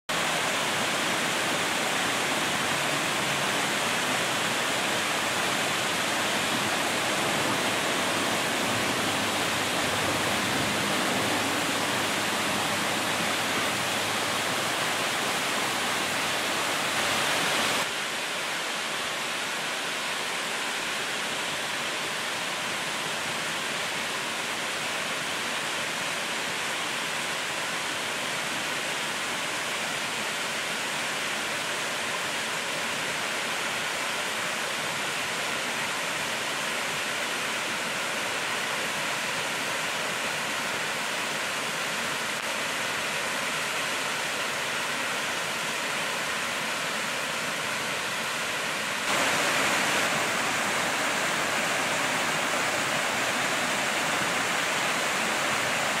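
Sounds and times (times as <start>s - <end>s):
waterfall rushing: 0.1s - 56.0s.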